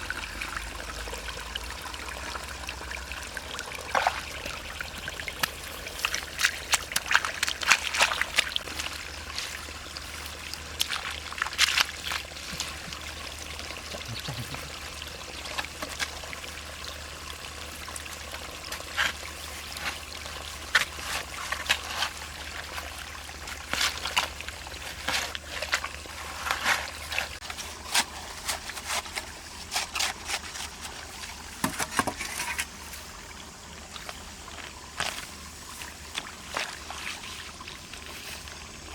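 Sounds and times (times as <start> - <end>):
shallow water splashing: 2.2 - 38.9.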